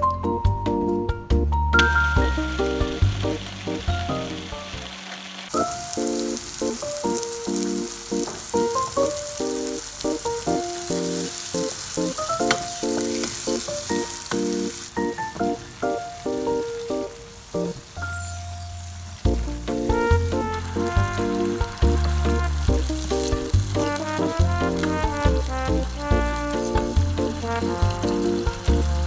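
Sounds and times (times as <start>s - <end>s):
background music: 0.0s - 29.0s
spice paste sizzling in oil: 1.9s - 29.0s.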